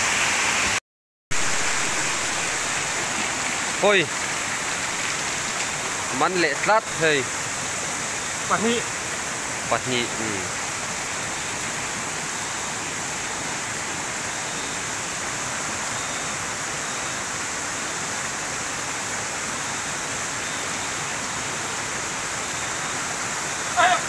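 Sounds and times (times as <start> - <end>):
stream flowing: 0.0 - 24.0.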